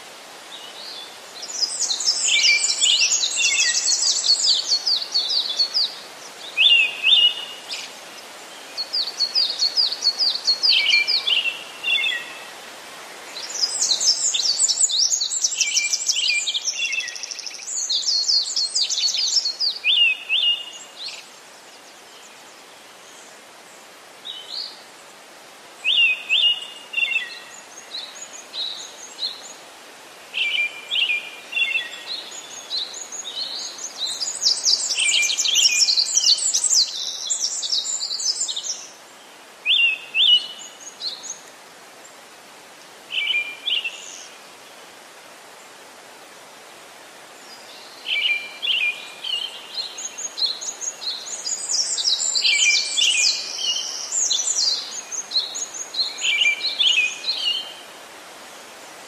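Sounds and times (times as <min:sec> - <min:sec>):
songbirds chirping: 0:00.0 - 0:59.0
steady hiss: 0:00.0 - 0:59.0.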